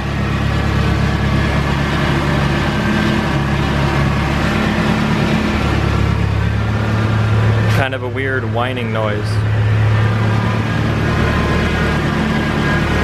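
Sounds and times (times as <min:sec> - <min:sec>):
car engine idling: 0:00.0 - 0:13.0
whining noise: 0:00.0 - 0:13.0.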